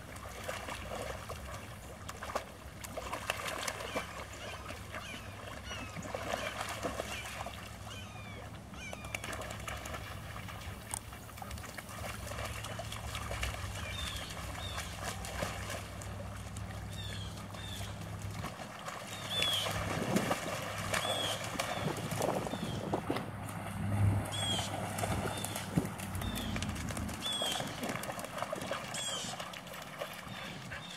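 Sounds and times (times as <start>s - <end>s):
dogs splashing through water: 0.0s - 30.9s.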